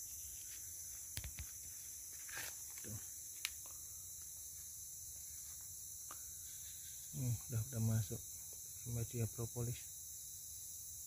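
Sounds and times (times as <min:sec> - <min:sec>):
high-pitched insect chirring: 0:00.0 - 0:11.0.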